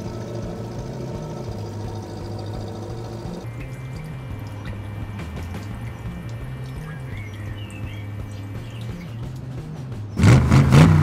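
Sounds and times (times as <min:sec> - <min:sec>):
low steady hum: 0:00.0 - 0:10.1
water sloshing and dripping: 0:00.0 - 0:10.1.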